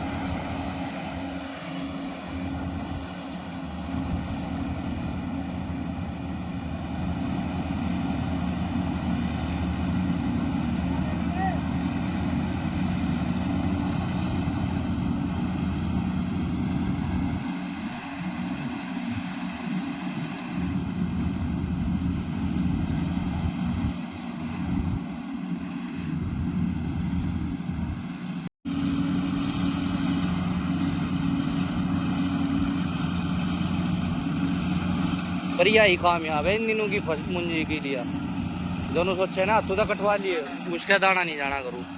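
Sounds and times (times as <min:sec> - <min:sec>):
combine harvester diesel engine: 0:00.0 - 0:41.9.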